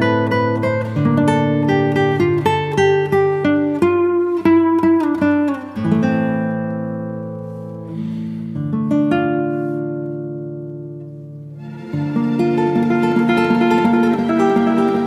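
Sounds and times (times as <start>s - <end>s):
plucked guitar chords: 0.0s - 15.0s.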